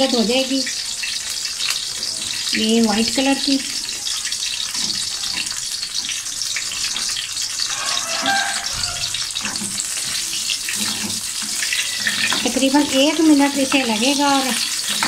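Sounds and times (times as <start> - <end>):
chillies sizzling in oil: 0.0 - 15.0.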